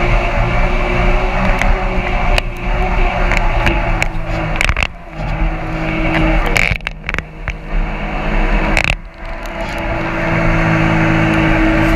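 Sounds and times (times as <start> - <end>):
jet boat engine running: 0.0 - 11.9.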